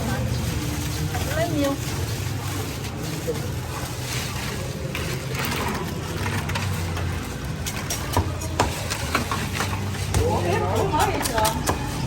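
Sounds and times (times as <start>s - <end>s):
low hum of traffic: 0.0s - 12.0s.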